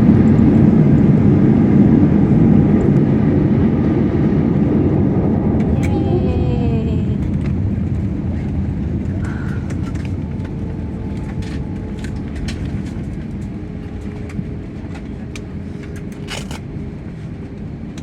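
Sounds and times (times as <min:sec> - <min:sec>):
airliner engine and wheel rumble: 0:00.0 - 0:18.0.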